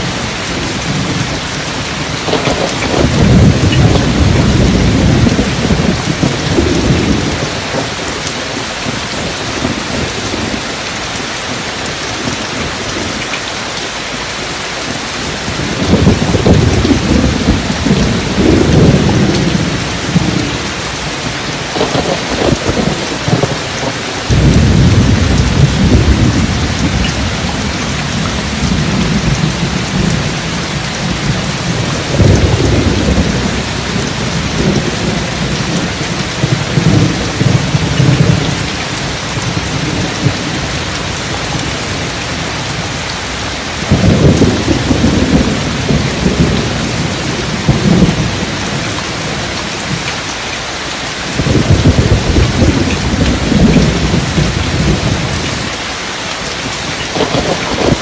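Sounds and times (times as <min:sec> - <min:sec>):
thunder rumbling: 0:00.0 - 0:13.3, 0:14.9 - 0:50.0, 0:51.3 - 0:55.8, 0:56.6 - 0:58.0
steady rain: 0:00.0 - 0:58.0.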